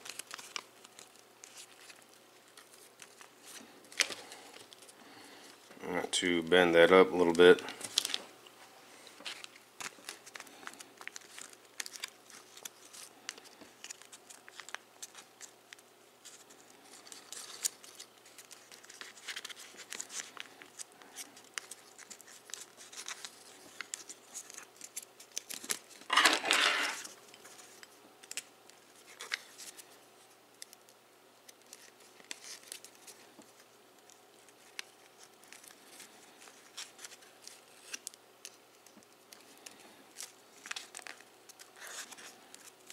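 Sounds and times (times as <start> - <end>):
paper rustle: 0.0 - 5.6, 7.3 - 8.3, 9.0 - 30.9, 31.5 - 42.9
foil paper crinkling: 0.0 - 5.7, 6.8 - 8.3, 9.0 - 42.9.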